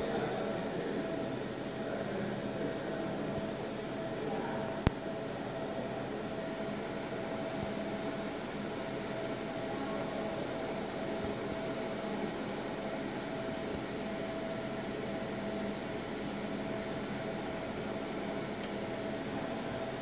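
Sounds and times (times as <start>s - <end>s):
constant mid-pitched tone: 0.0s - 20.0s
machine fan humming: 0.0s - 20.0s.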